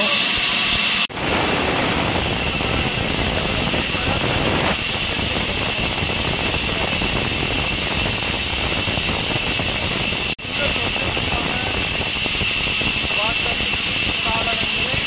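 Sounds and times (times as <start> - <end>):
band saw cutting wood: 0.0 - 15.0.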